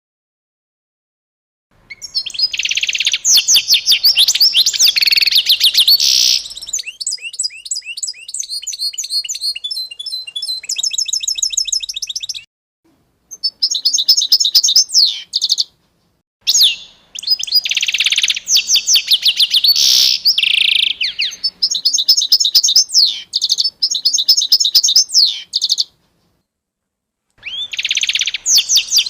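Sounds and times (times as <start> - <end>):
songbirds chirping and trilling: 1.8 - 12.5, 13.3 - 26.4, 27.4 - 29.0.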